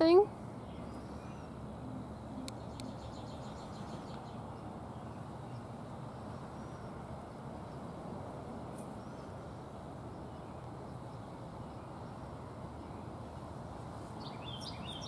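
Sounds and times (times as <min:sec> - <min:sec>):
faint rapid bird trill: 0:00.0 - 0:07.9, 0:08.8 - 0:13.2, 0:14.0 - 0:15.0.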